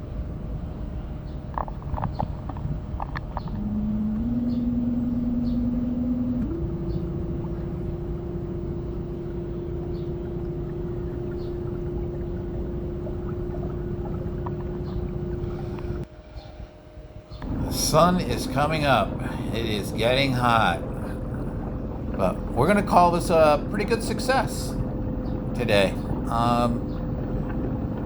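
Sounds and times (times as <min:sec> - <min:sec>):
low rumble: 0:00.0 - 0:16.1, 0:17.4 - 0:28.0
motor humming: 0:02.1 - 0:16.1, 0:17.3 - 0:28.0.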